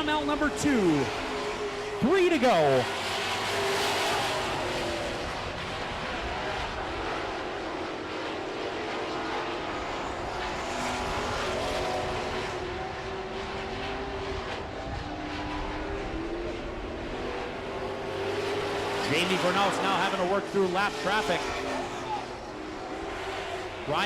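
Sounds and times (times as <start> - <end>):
race truck engines revving: 0.0 - 24.0.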